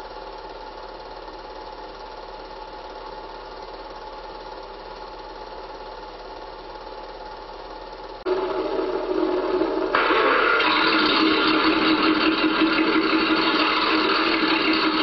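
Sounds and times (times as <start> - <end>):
film projector whirring: 0.0 - 15.0
low mains hum: 0.0 - 15.0.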